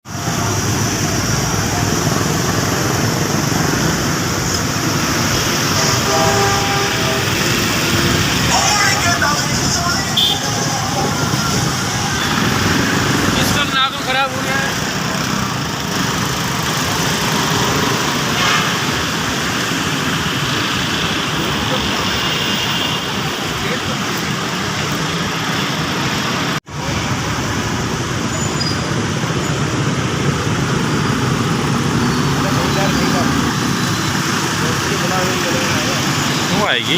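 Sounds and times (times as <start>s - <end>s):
heavy rain rushing: 0.0s - 36.9s
road traffic: 0.0s - 36.9s.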